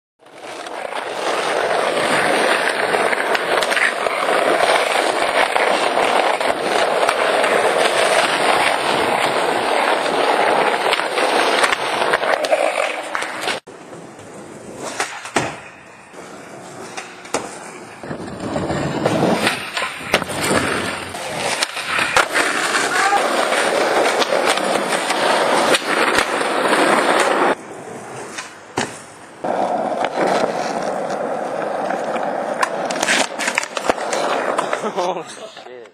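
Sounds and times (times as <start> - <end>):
skateboard clacks: 0.2 - 27.6, 28.2 - 35.2
skateboard wheels rolling on pavement: 0.2 - 35.9.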